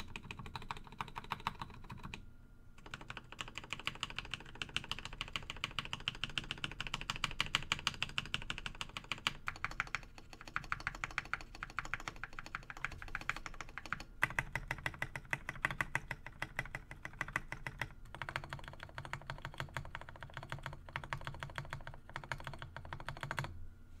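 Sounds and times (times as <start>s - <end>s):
fast mechanical keyboard typing: 0.0s - 2.2s, 2.8s - 23.5s.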